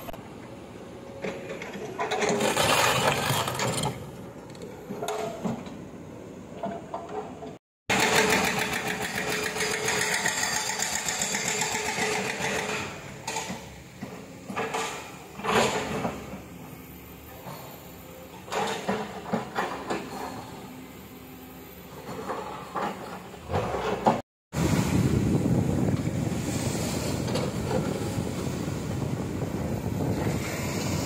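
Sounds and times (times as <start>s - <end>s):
excavator engine and hydraulic whine: 0.0s - 31.0s.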